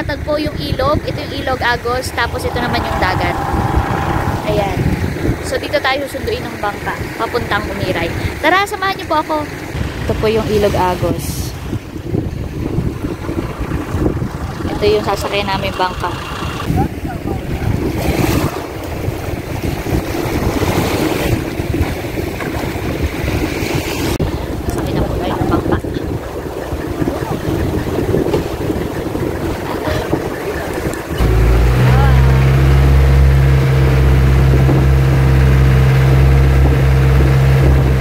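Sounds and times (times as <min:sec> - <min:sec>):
boat engine droning: 0:00.0 - 0:38.0
small waves washing ashore: 0:00.0 - 0:38.0
wind buffeting microphone: 0:00.0 - 0:38.0.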